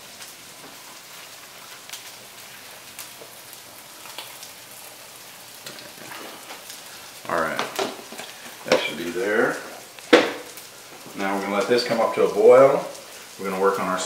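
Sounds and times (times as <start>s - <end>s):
sausages sizzling in a skillet: 0.0s - 14.0s.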